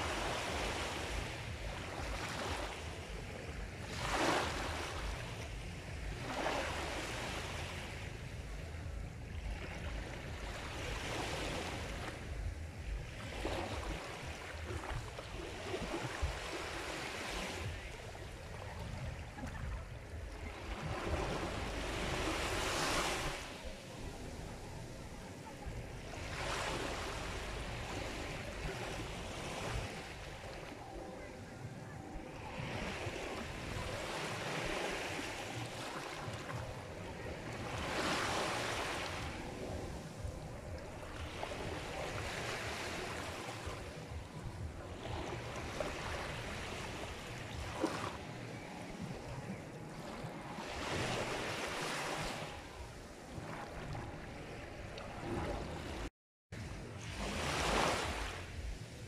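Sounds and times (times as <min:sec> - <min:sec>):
sea waves washing ashore: 0:00.0 - 0:59.0.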